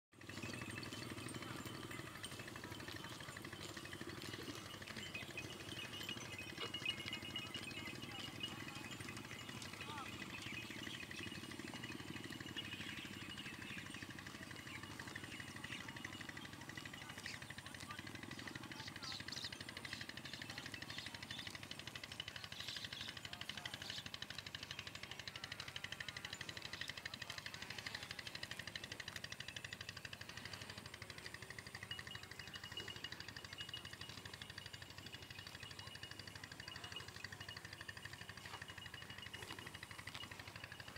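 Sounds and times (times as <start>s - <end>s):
small engine running: 0.1s - 40.9s.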